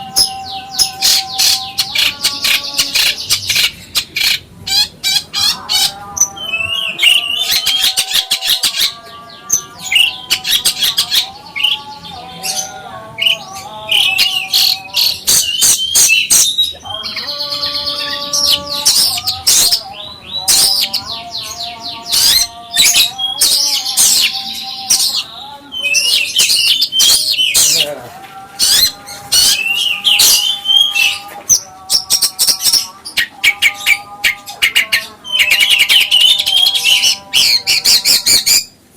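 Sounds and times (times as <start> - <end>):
songbird singing: 0.0 - 38.8.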